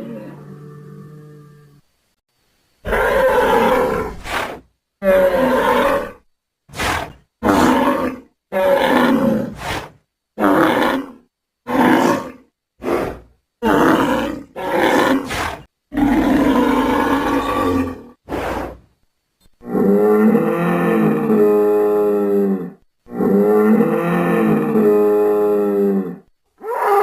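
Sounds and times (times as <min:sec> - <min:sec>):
bull bellowing: 0:02.8 - 0:18.8, 0:19.6 - 0:27.0.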